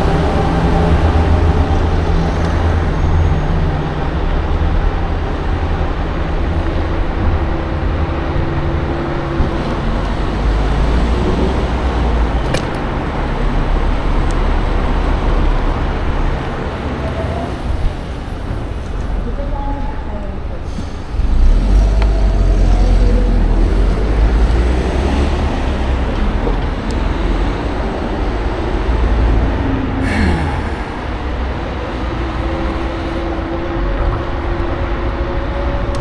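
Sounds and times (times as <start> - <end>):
wind and road rushing noise: 0.0 - 19.3, 20.3 - 36.0.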